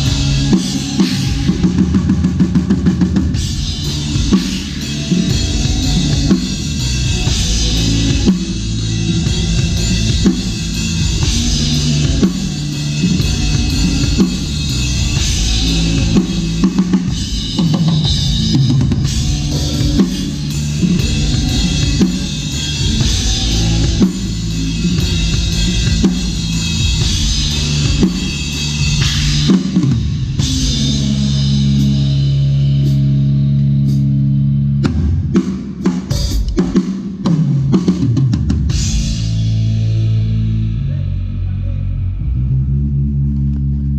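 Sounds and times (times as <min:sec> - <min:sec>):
drum kit playing: 0:00.0 - 0:40.9
band music: 0:00.0 - 0:41.6.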